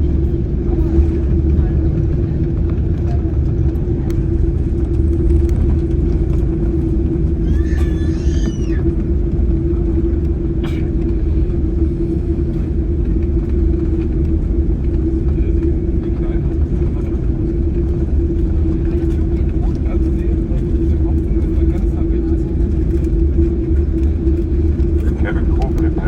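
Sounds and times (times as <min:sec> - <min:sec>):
airplane cabin engine rumble: 0:00.0 - 0:26.0
constant hum: 0:00.0 - 0:26.0.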